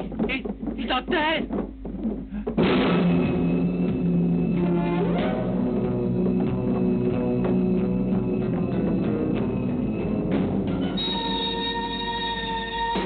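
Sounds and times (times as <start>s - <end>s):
steady drum hits: 0.0s - 11.0s
film soundtrack music: 0.0s - 13.0s.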